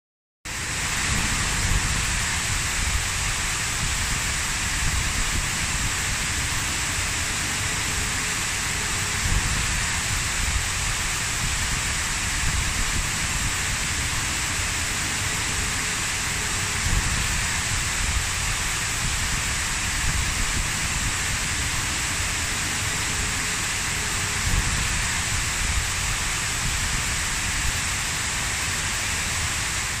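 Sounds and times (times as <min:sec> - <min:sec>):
fountain water splashing: 0:00.5 - 0:30.0.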